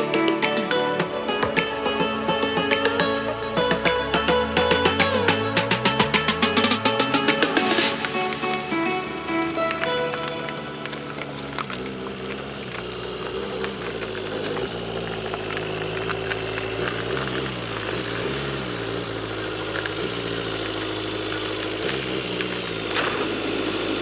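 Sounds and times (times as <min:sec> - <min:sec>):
guitar music: 0:00.0 - 0:23.9
engine running: 0:00.0 - 0:24.0.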